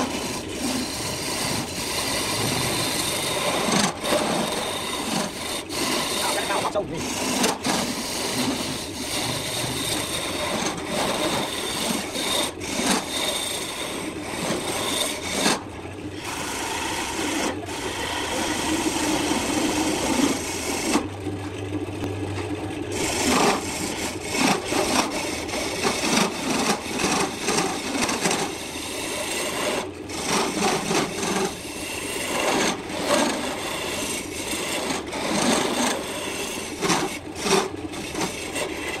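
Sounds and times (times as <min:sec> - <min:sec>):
turning tool scraping wood: 0:00.0 - 0:21.1, 0:22.9 - 0:39.0
lathe motor humming: 0:00.0 - 0:39.0.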